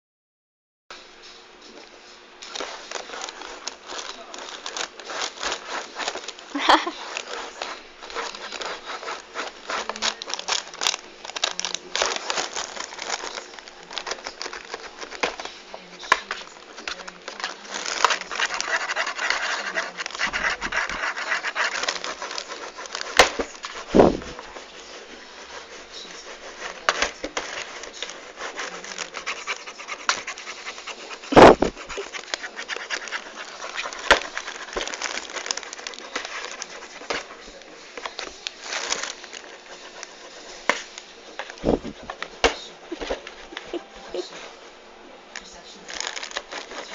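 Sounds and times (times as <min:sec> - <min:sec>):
cat scratching cardboard box: 0:02.5 - 0:44.7, 0:45.4 - 0:46.9.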